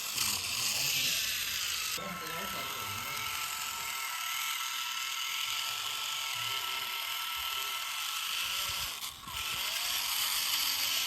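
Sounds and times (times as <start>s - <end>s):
toy electric motor whining: 0.0s - 11.0s.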